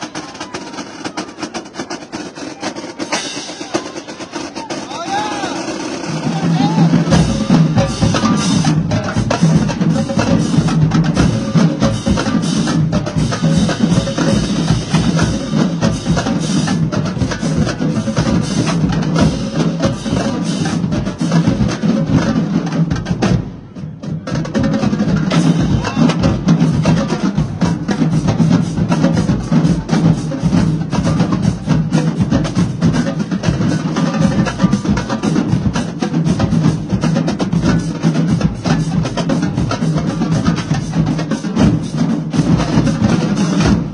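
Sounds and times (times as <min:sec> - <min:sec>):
snare drums and crash cymbals: 0:00.0 - 0:43.9.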